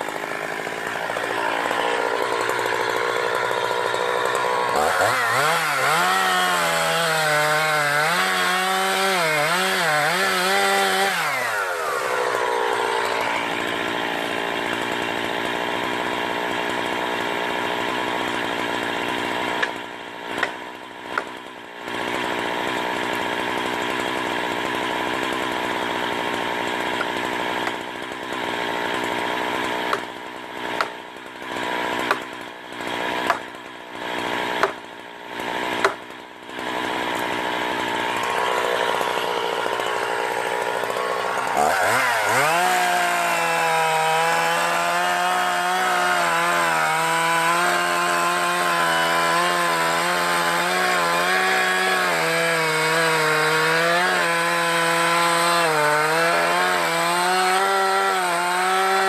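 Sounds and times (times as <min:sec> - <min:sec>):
chainsaw cutting tree: 0:00.0 - 0:59.0.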